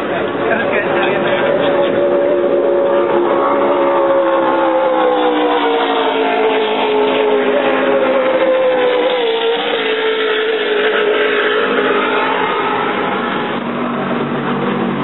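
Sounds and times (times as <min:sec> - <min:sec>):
powerboat engines passing: 0:00.0 - 0:15.0.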